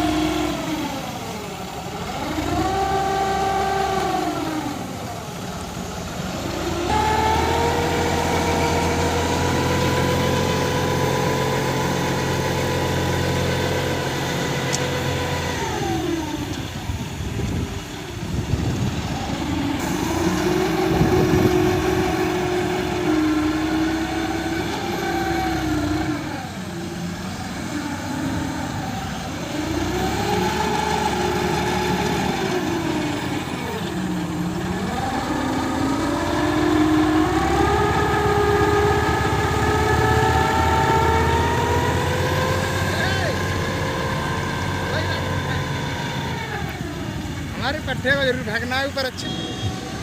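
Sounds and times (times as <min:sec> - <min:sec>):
heavy diesel engine running: 0:00.0 - 0:50.0.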